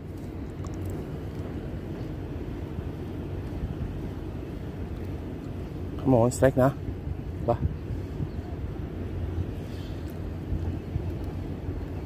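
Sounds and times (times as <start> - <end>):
low wind rumble on microphone: 0.0 - 12.0.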